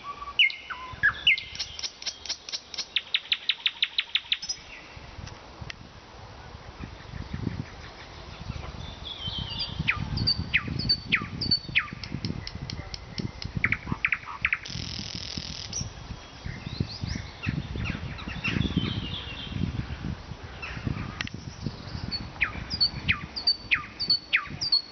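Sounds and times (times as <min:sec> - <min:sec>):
nightingale singing: 0:00.0 - 0:05.1, 0:06.8 - 0:19.8, 0:20.6 - 0:24.9.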